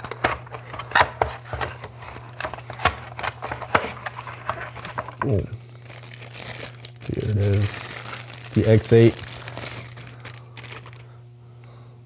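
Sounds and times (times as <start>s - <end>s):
plastic wrapping rustling: 0.0s - 11.2s.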